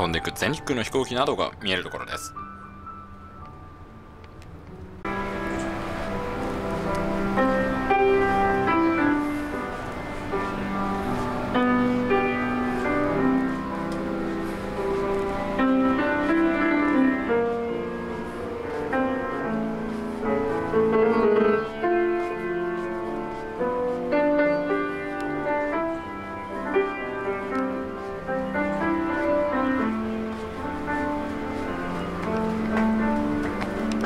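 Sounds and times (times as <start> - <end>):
classical piano music: 0.0 - 34.0.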